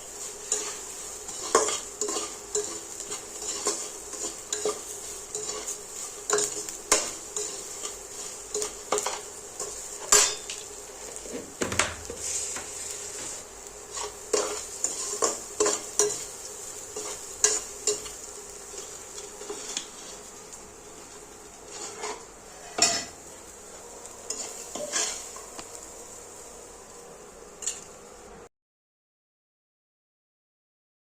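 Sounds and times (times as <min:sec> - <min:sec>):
food sizzling in frying pan: 0:00.0 - 0:28.5
metal spoon scraping a pan: 0:00.1 - 0:11.4, 0:12.0 - 0:25.7, 0:27.6 - 0:28.0.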